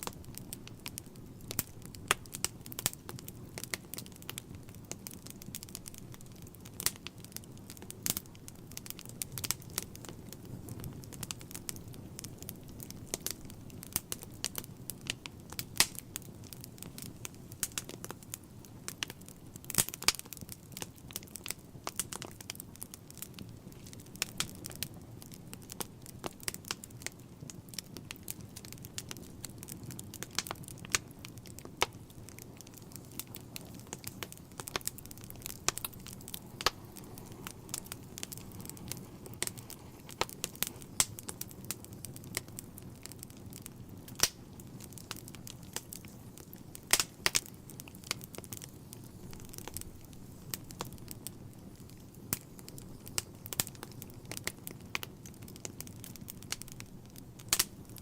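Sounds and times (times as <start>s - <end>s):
low rush of flames: 0.0s - 58.0s
wood fire crackling and popping: 0.0s - 58.0s.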